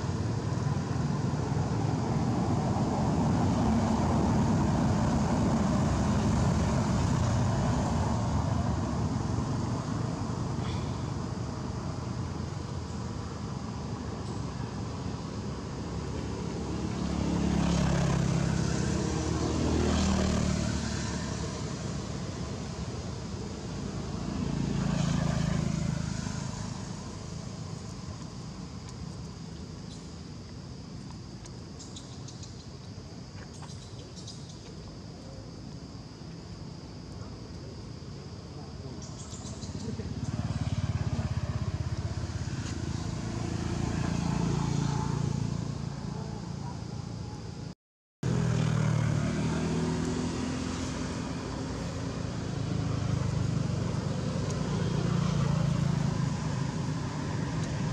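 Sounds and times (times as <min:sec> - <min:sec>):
distant engine drone: 0:00.0 - 0:57.9.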